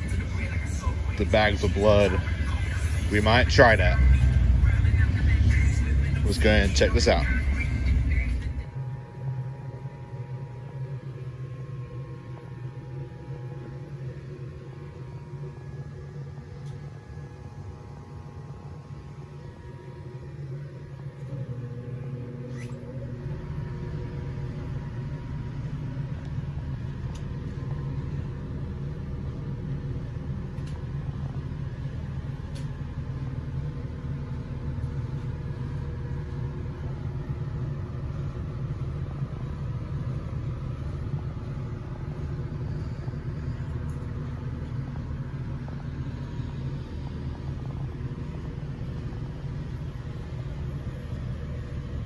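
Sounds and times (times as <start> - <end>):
low indoor rumble: 0.0 - 52.0.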